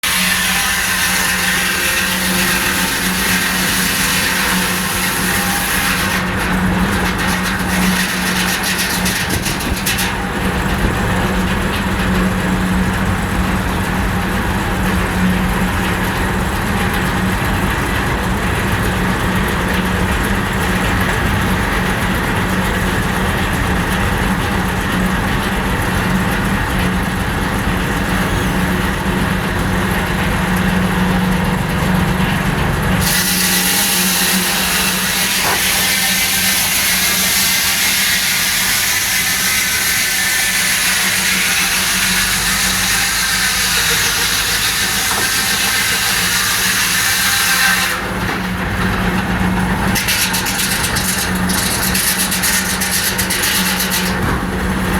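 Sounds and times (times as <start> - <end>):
sawmill machinery droning: 0.0 - 54.9.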